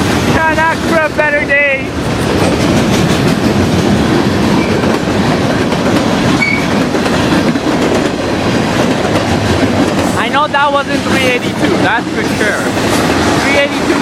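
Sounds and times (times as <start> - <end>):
freight train wheels clattering: 0.0 - 14.0.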